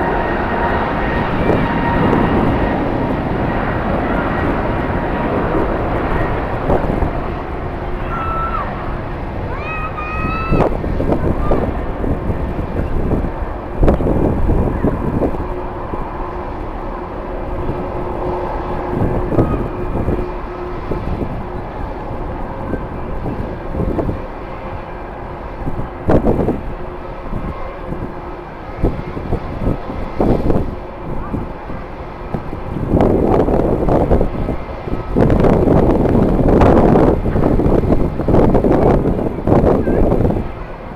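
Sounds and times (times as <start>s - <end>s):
jet engines running: 0.0s - 40.9s
wind buffeting microphone: 0.0s - 40.9s.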